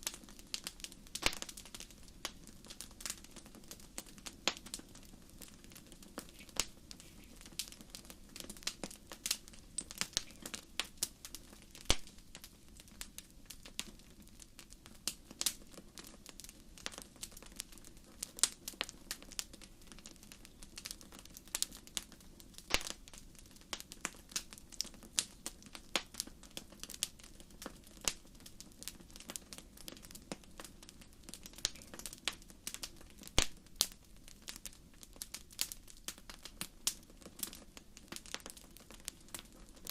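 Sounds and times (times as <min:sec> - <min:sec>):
low background noise: 0:00.0 - 0:39.9
wood fire crackling: 0:00.0 - 0:39.9.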